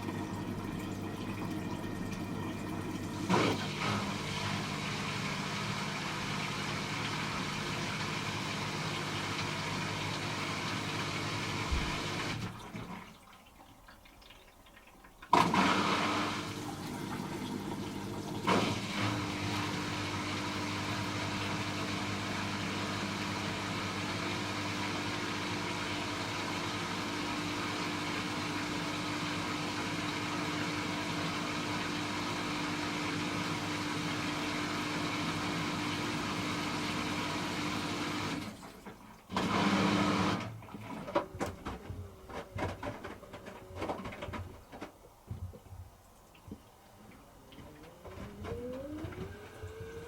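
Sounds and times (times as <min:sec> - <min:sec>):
washing machine humming: 0:00.0 - 0:50.0.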